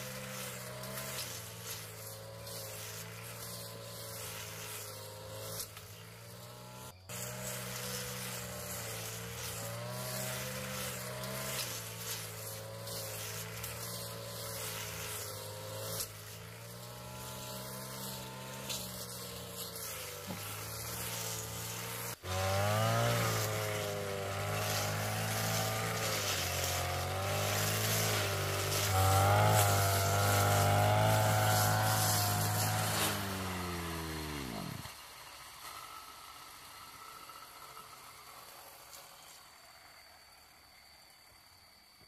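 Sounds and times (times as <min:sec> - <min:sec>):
brush cutter engine running: 0:00.0 - 0:41.2.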